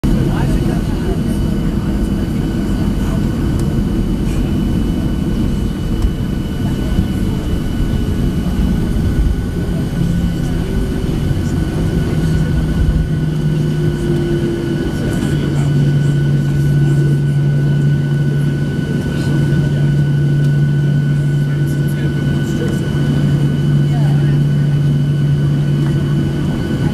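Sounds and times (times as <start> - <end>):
jet engines whining: 0.0 - 26.9.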